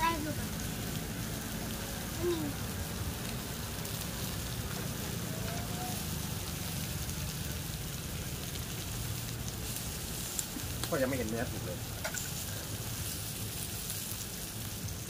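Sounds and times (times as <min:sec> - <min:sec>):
light rain hissing: 0:00.0 - 0:15.0
passing road traffic rumble: 0:00.0 - 0:15.0.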